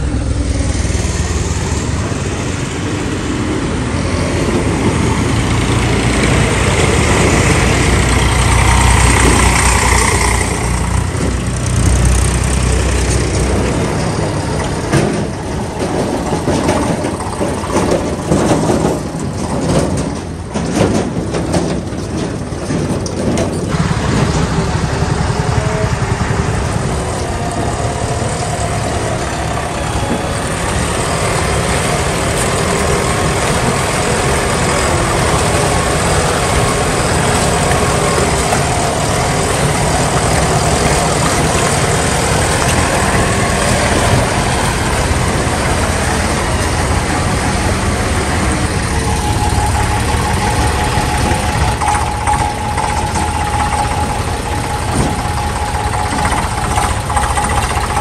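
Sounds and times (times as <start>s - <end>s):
diesel engine running: 0.0s - 58.0s
engine knocks and clatter: 0.0s - 58.0s.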